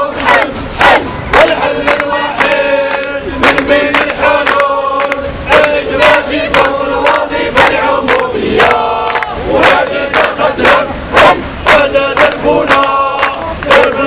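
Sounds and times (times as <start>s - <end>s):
crowd chanting in unison: 0.0s - 14.0s.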